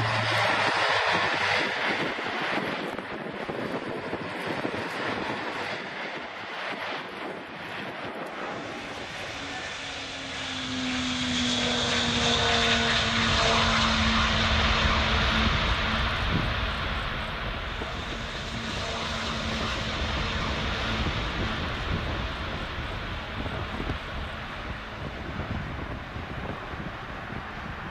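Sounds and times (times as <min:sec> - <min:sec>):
jet engines roaring at take-off: 0:00.0 - 0:27.9.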